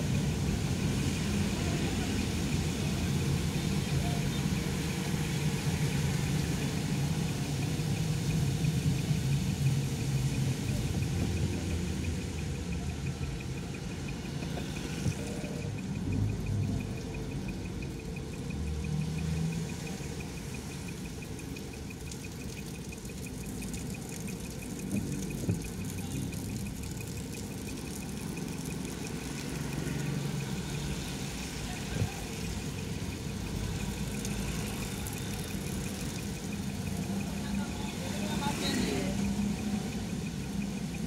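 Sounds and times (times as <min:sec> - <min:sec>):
car engine idling: 0:00.0 - 0:41.0
fast even ticking: 0:00.0 - 0:41.0.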